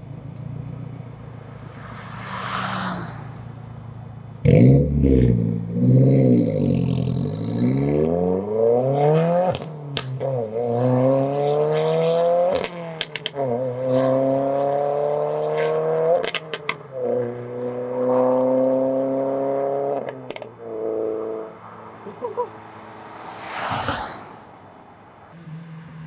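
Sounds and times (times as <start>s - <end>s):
car engine accelerating: 0.2s - 26.0s.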